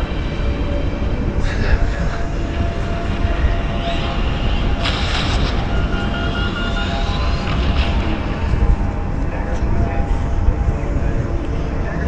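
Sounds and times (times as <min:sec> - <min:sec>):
ship engine low rumble: 0:00.0 - 0:12.0
wind on microphone: 0:00.0 - 0:12.0.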